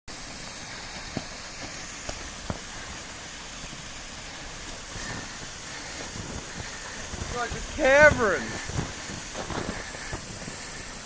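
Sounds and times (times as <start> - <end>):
waterfall rushing hiss: 0.1 - 11.0.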